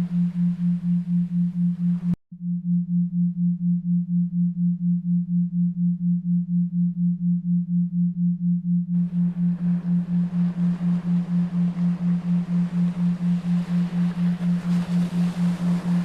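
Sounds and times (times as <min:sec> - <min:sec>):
low pulsing tone: 0:00.0 - 0:16.0.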